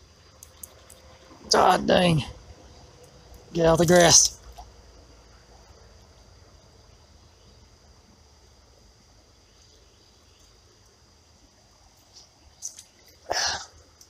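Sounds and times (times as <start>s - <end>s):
insect chorus drone: 0.0s - 14.0s.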